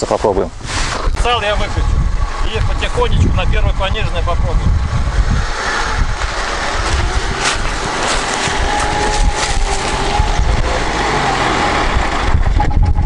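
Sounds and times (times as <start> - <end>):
car engine under load: 0.1 - 13.0
wheels digging into sand: 0.1 - 13.0.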